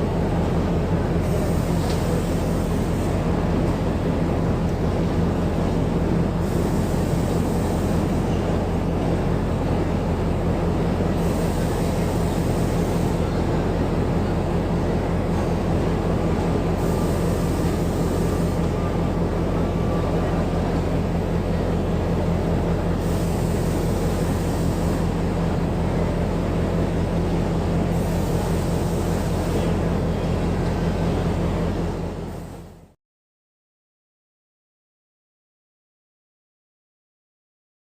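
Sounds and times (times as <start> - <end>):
diesel train engine humming: 0.0 - 33.0.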